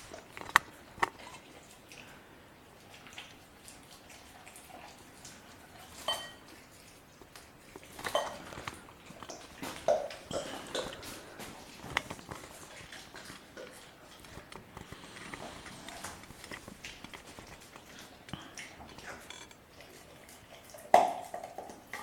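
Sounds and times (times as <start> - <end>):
puppy chewing and crunching bone: 0.0 - 22.0.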